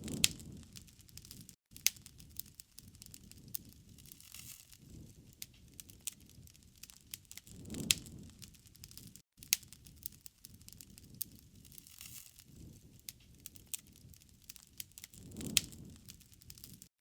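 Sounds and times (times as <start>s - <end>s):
wood fire crackling and popping: 0.0s - 16.9s.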